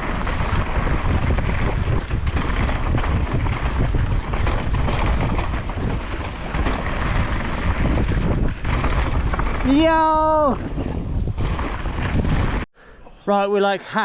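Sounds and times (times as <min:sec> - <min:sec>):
bike rattling on rough ground: 0:00.0 - 0:12.7
wind buffeting microphone: 0:00.0 - 0:12.7.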